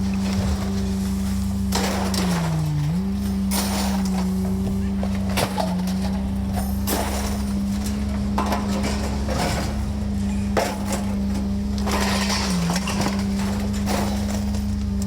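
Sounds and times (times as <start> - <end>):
scrap metal clanking: 0.0 - 15.0.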